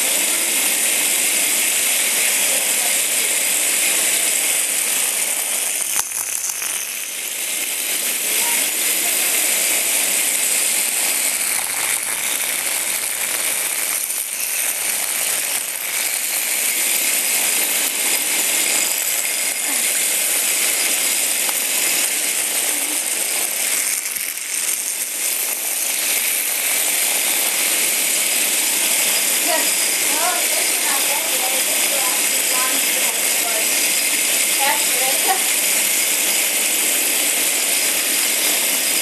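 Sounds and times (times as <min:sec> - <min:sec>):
vibrating toys buzzing and rattling: 0:00.0 - 0:39.0.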